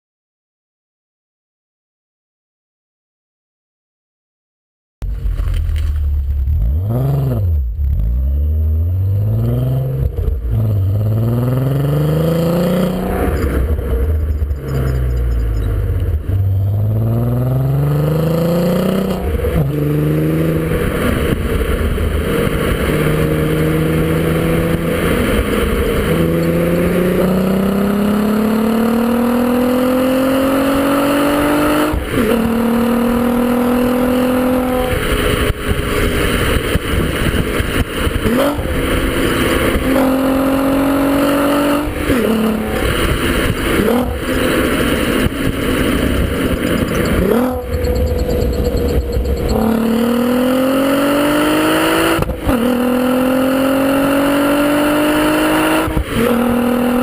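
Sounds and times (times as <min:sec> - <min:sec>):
car engine revving with upshifts: 0:05.1 - 0:57.0.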